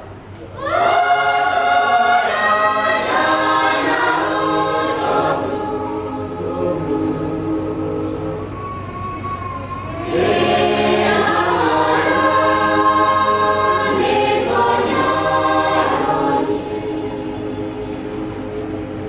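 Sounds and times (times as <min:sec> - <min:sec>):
choir singing a hymn: 0:00.5 - 0:09.1, 0:09.8 - 0:19.0.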